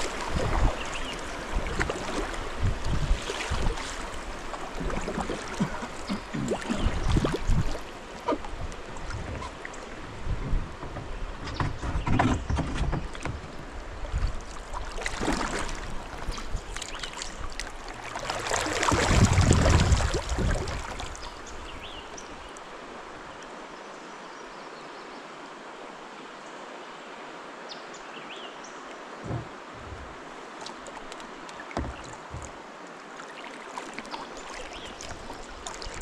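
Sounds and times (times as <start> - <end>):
faint water hiss: 0.0 - 10.2, 13.7 - 36.0
paddle strokes splashing in water: 0.0 - 22.7, 29.2 - 36.0
rush of water: 0.0 - 36.0.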